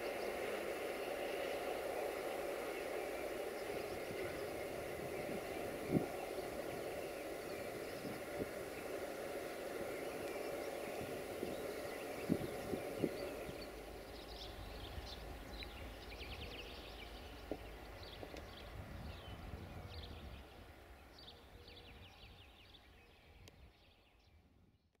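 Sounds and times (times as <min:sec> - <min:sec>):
low background rumble: 0:00.0 - 0:22.8
birds chirping: 0:00.0 - 0:24.2.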